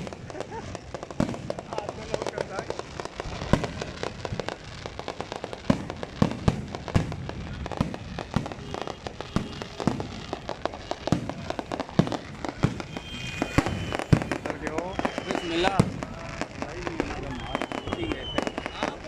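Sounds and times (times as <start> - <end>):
fireworks bangs and pops: 0.0 - 19.0
fireworks crackle: 0.0 - 19.0.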